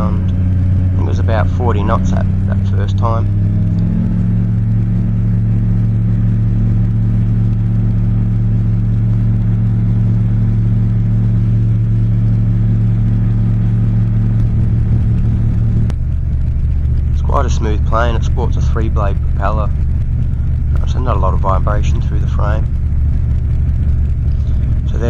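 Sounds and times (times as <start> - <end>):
light aircraft engine and propeller: 0.0 - 25.0.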